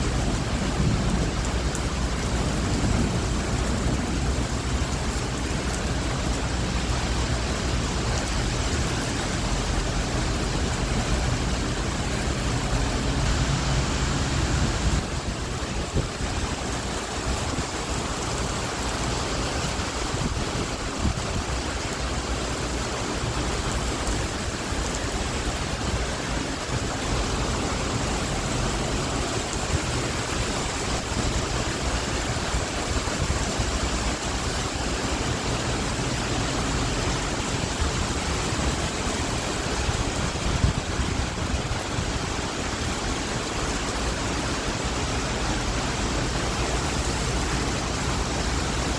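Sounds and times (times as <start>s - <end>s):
wind and heavy rain: 0.0s - 48.9s.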